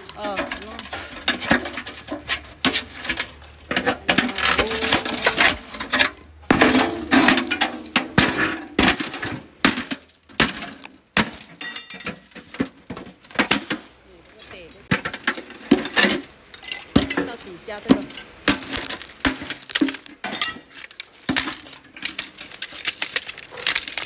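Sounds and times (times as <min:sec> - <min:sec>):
metal strikes and clanks: 0:00.0 - 0:22.2.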